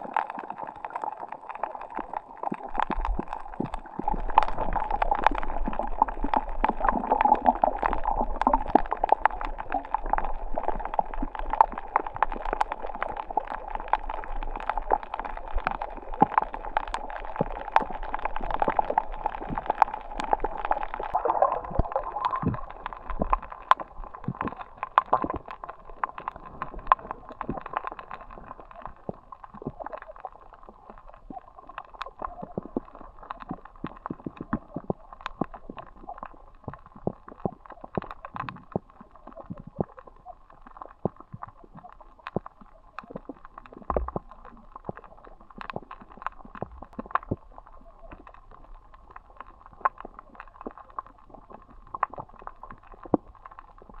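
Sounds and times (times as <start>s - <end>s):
water gurgling and sloshing: 0.0s - 54.0s.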